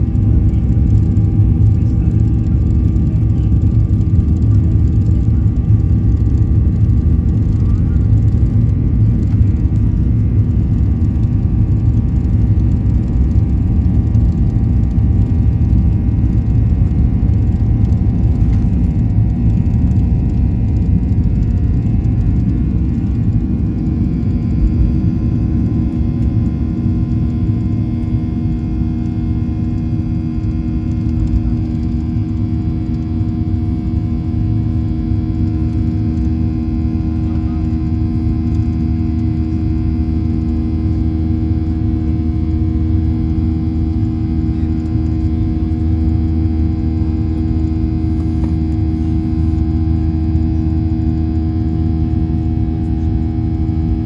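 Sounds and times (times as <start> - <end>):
jet engines rumbling: 0.0 - 54.0
steady engine tones: 0.0 - 54.0.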